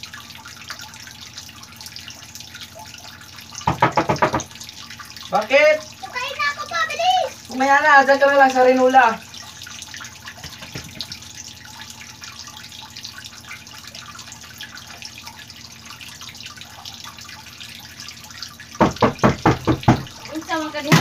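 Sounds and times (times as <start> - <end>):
tap water pouring into basin: 0.0 - 21.0.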